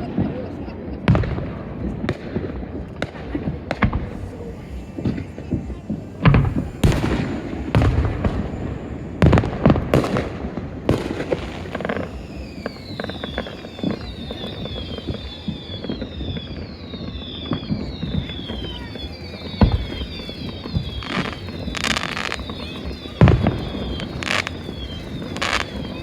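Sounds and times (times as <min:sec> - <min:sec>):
fireworks falling whistles: 0:00.0 - 0:26.0
small firework pops: 0:00.0 - 0:26.0
fireworks booming: 0:01.0 - 0:26.0.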